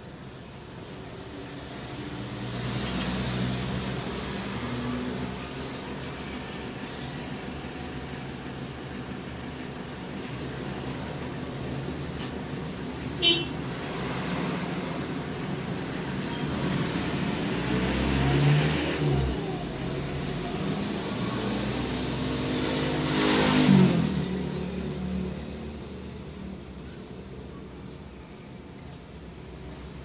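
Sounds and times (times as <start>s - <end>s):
road traffic engine hum: 0.0s - 30.0s.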